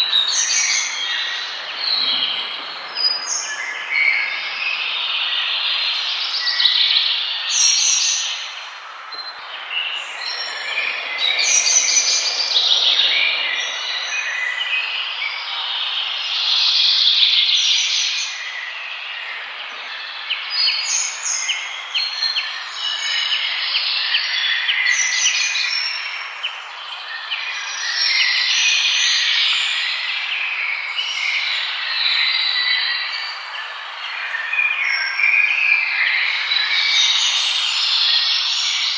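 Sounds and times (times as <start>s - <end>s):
forest birds singing: 0.0s - 38.9s
steady background hiss: 0.0s - 38.9s.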